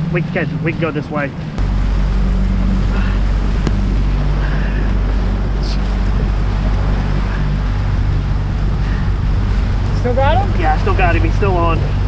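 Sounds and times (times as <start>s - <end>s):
boat motor running: 0.0s - 12.0s
water noise: 0.0s - 12.0s
wind on microphone: 0.0s - 12.0s.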